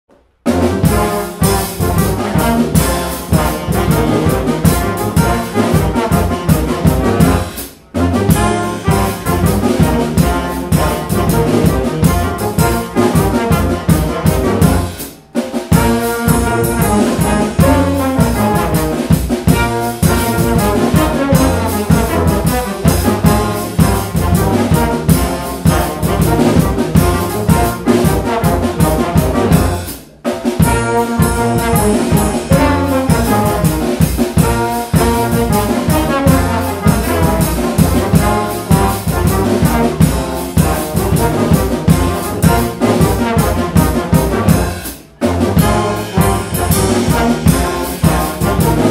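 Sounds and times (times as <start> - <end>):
brass band playing: 0.1 - 48.9
drum kit: 0.1 - 48.9.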